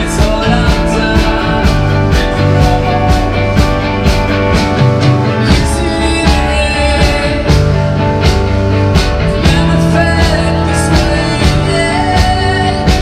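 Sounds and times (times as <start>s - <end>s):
bass guitar: 0.0s - 13.0s
drums: 0.0s - 13.0s
electric guitars: 0.0s - 13.0s.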